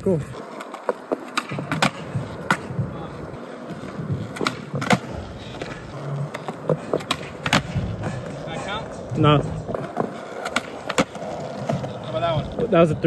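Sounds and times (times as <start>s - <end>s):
skateboard wheels rolling on concrete: 0.0s - 13.0s
skateboard deck clacking on concrete: 0.2s - 13.0s.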